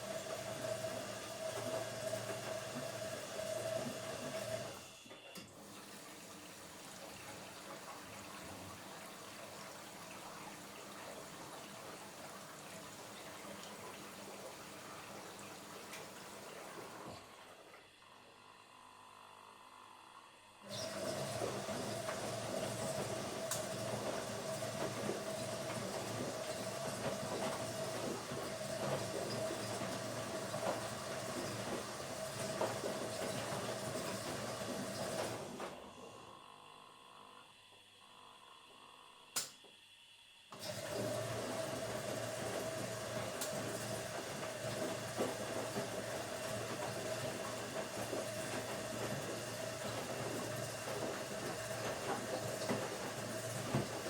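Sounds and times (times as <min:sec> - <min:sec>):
washing machine running: 0:00.0 - 0:54.0.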